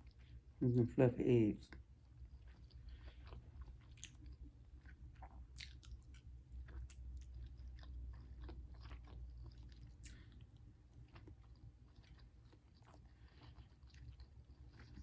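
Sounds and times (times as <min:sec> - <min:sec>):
person chewing food: 0:00.0 - 0:00.6, 0:01.6 - 0:15.0.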